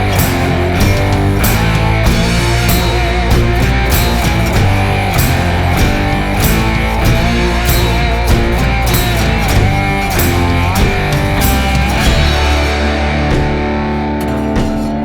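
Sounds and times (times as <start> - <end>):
electric guitar: 0.0 - 15.0
steady drum beat: 0.0 - 15.0.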